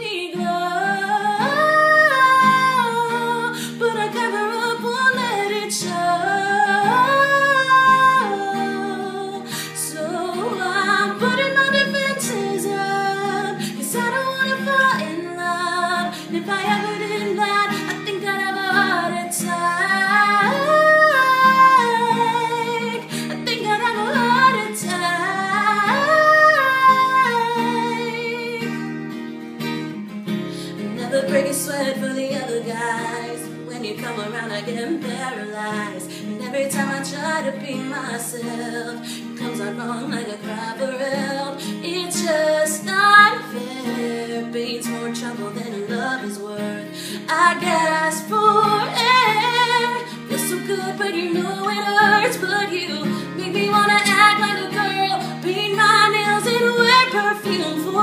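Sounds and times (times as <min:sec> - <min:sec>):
woman singing pop song: 0:00.0 - 0:29.2, 0:30.3 - 0:58.0
acoustic guitar strumming: 0:00.0 - 0:58.0.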